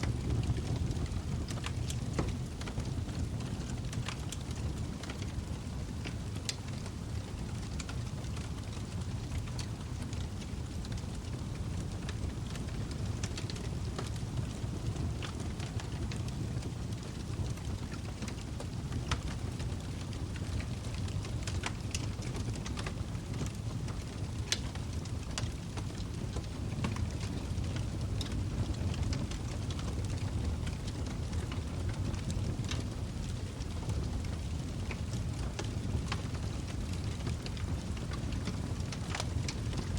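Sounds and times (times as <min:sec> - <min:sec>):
fire crackling and popping: 0:00.0 - 0:39.9
fire flames rushing: 0:00.0 - 0:39.9.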